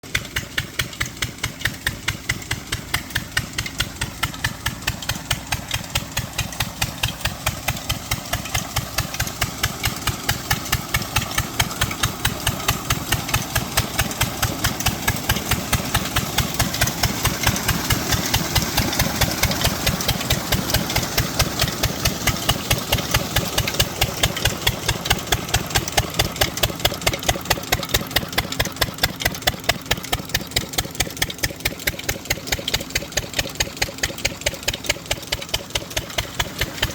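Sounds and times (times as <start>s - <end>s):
diesel engine beating steadily: 0.0s - 36.9s.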